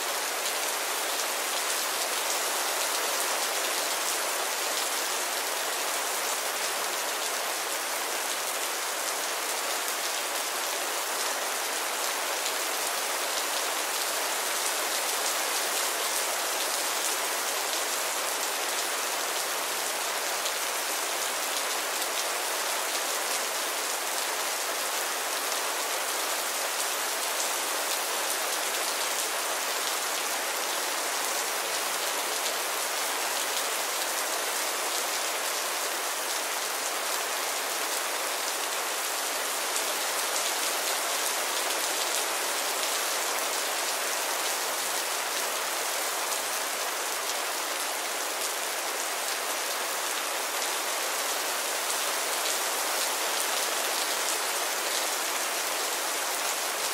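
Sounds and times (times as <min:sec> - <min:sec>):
rain falling steadily: 0:00.0 - 0:56.9.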